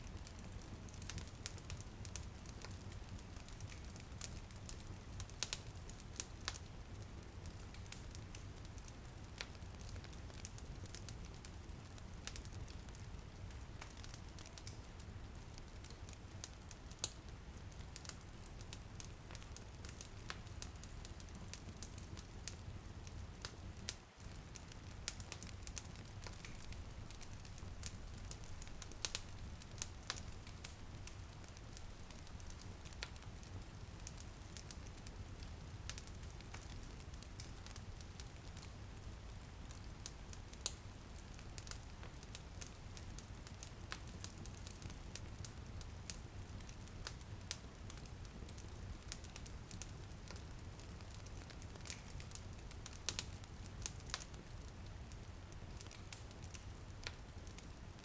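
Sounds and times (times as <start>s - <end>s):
light rain: 0.0s - 58.0s
wood fire crackling and popping: 0.0s - 58.0s.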